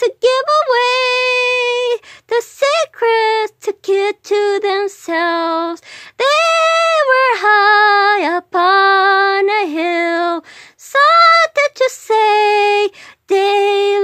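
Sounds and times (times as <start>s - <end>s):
woman singing unaccompanied: 0.0s - 14.0s.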